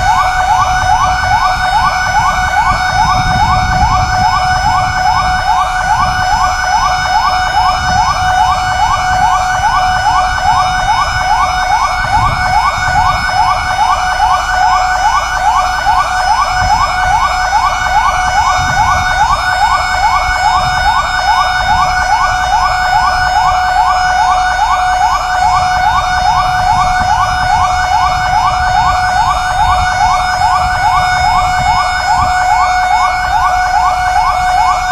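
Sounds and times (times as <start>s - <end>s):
fire engine siren yelping: 0.0s - 34.9s.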